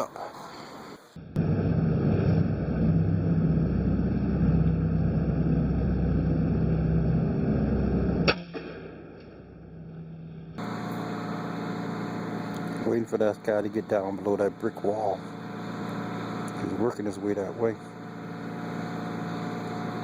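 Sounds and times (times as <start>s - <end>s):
farm machinery humming: 0.0s - 20.0s.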